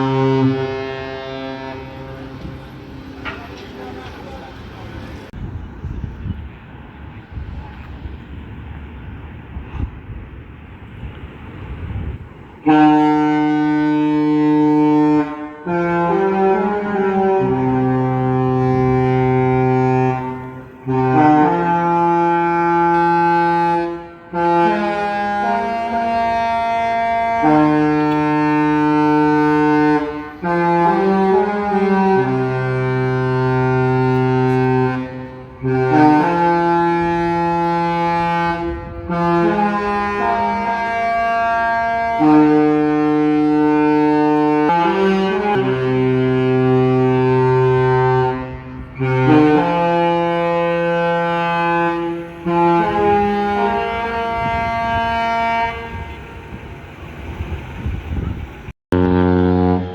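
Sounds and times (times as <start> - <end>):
ship horn playing a tune: 0.0 - 5.3, 10.8 - 59.9.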